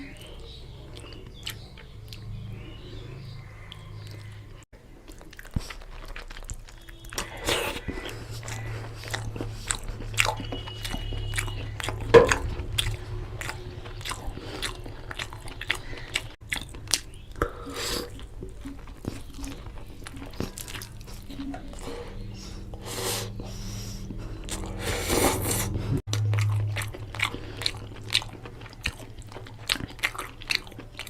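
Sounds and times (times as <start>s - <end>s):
chewing and biting food: 0.1s - 31.0s.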